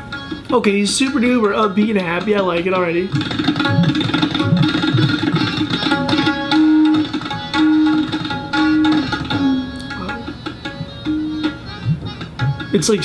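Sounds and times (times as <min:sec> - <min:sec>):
melodic accompaniment held notes: 0:00.0 - 0:13.0
tabla played fast: 0:00.0 - 0:13.0.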